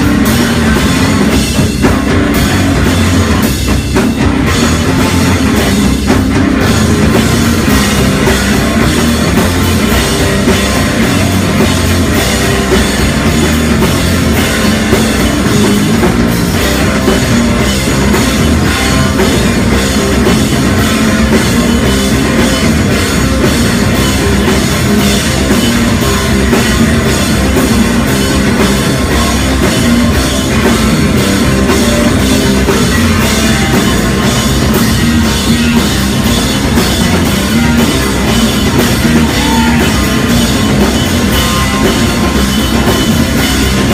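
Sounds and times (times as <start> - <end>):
rock band playing live: 0.0 - 43.9.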